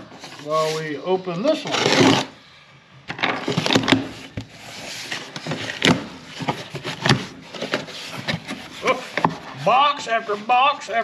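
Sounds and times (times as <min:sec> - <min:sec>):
cardboard rustling and scraping: 0:00.0 - 0:02.4, 0:03.2 - 0:11.0.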